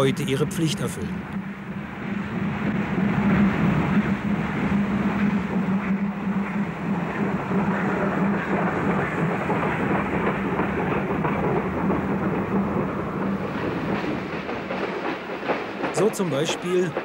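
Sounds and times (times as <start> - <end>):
clickety-clack of wheels on rail joints: 0.0 - 17.0
train rumbling along track: 0.0 - 17.0.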